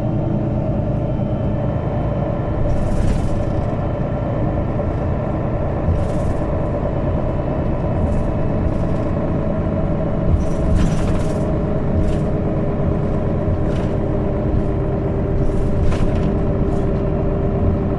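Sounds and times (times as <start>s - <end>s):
bus engine rumble: 0.0s - 17.9s
constant whine: 0.0s - 17.9s.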